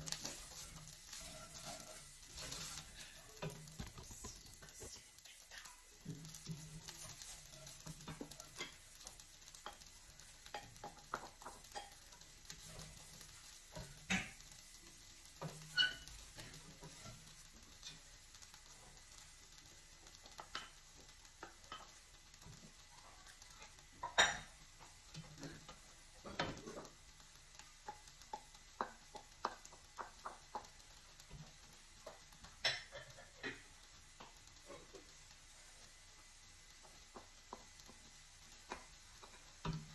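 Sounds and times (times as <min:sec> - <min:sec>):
wooden spoon stirring in metal pot: 0:00.0 - 0:39.9.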